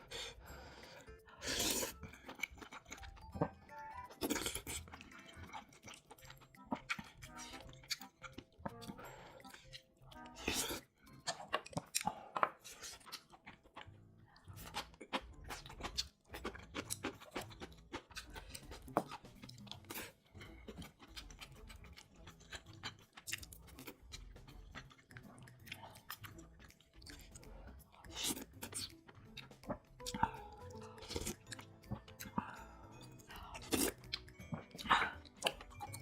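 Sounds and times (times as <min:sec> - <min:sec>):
person chewing and crunching food: 0:00.0 - 0:36.0.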